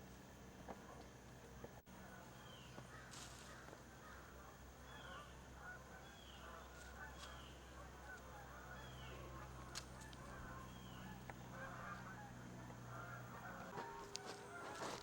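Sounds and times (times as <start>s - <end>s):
low steady hum: 0.0s - 15.0s
faint bird calls: 0.8s - 15.0s.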